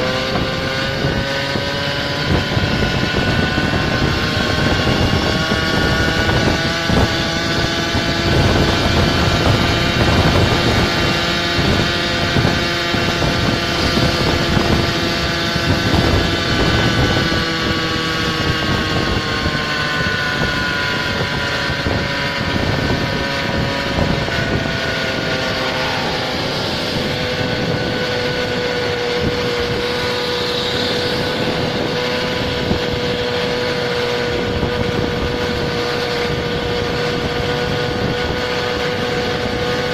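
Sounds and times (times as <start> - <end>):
small scooter engines running: 0.0 - 39.9
wind rumbling on microphone: 0.0 - 39.9.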